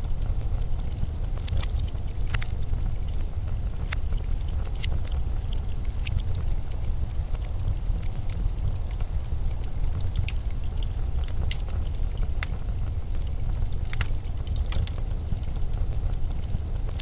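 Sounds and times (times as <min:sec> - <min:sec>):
faint sharp clicks and crackles: 0:00.0 - 0:17.0.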